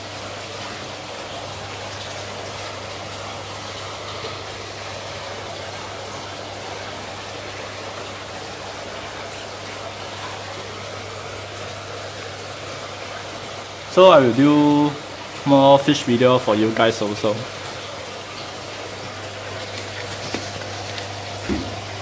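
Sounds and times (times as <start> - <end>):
bubbling aquarium water: 0.0 - 22.0
low electrical hum: 0.0 - 22.0.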